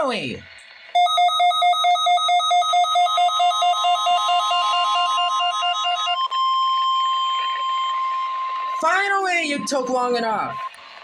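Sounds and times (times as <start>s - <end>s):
rapid two-pitch electronic alarm beeps: 0.9s - 10.8s
steady weather radio alarm tone: 1.0s - 10.8s.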